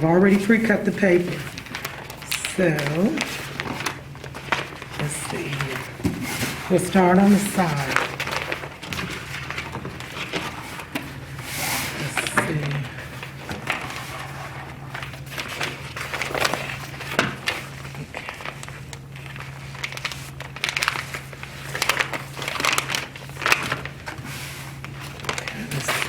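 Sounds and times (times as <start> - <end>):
contact paper crinkling: 0.0 - 26.0
steady low hum: 0.0 - 26.0.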